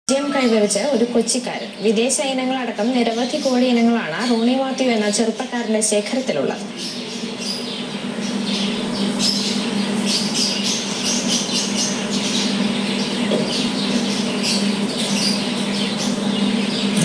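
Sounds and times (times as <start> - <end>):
birds chirping and squawking: 0.1 - 17.0
steady low hum: 0.1 - 17.0.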